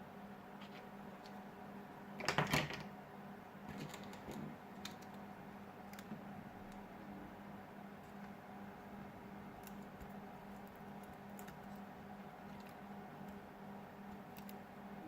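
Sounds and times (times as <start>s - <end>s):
steady low hum: 0.0s - 2.2s, 2.9s - 15.0s.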